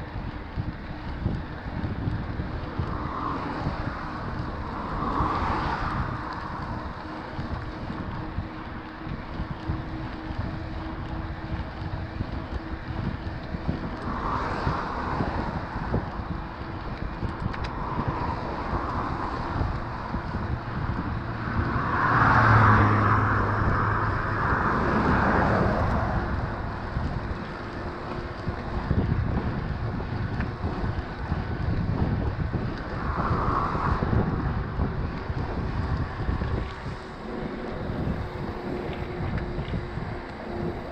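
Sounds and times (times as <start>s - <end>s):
bike tyres rumbling over trail: 0.0s - 40.9s
wind buffeting microphone: 0.0s - 40.9s.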